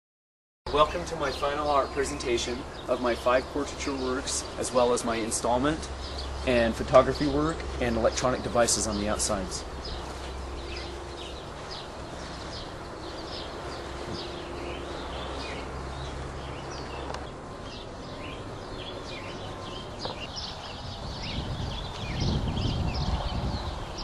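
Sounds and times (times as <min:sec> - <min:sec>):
small birds chirping and twittering: 0:00.7 - 0:24.0.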